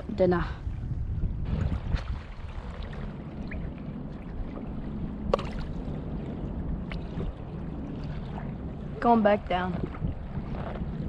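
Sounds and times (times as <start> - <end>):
water lapping and splashing: 0.0 - 11.0.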